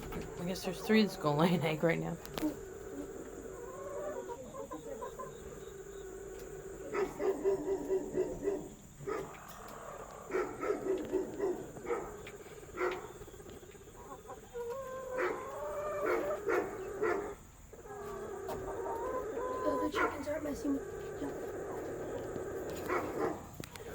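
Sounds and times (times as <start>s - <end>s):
hens clucking: 0.0s - 23.9s.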